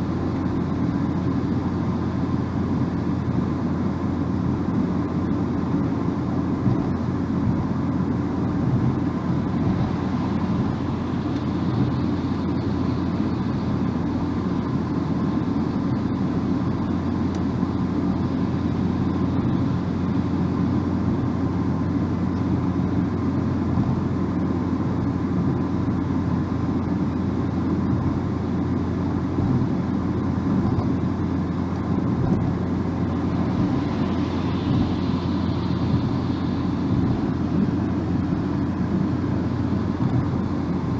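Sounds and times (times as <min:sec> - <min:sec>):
car road noise from inside: 0:00.0 - 0:40.9.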